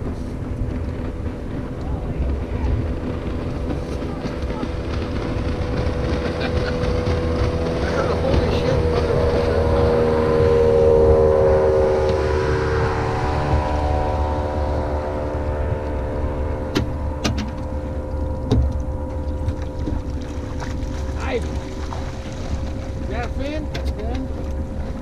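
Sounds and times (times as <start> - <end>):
boat motor droning: 0.0 - 25.0.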